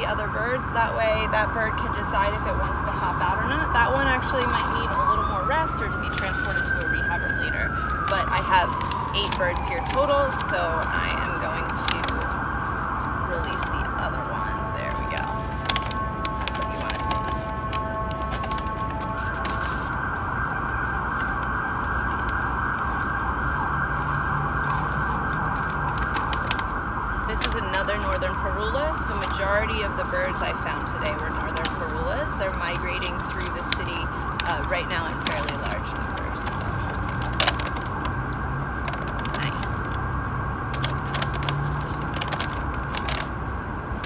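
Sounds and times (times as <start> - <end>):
siren: 0.0 - 44.0
paper bags crinkling: 0.1 - 44.0.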